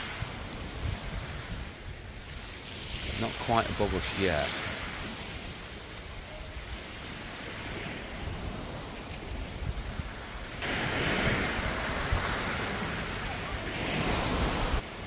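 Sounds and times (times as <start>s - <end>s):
wind buffeting microphone: 0.0s - 14.9s
surf washing onto beach: 0.0s - 15.0s.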